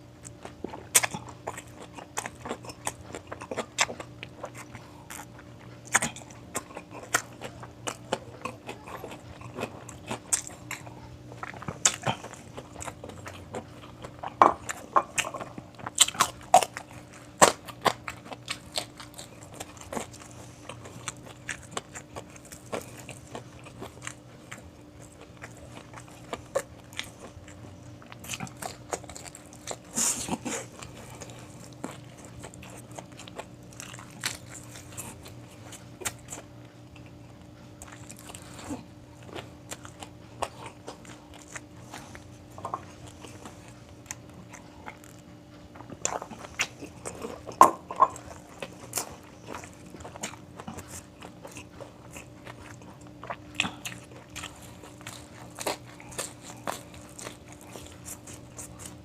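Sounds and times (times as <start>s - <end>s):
faint steady hum: 0.0s - 59.0s
chewing clicks: 0.2s - 59.0s.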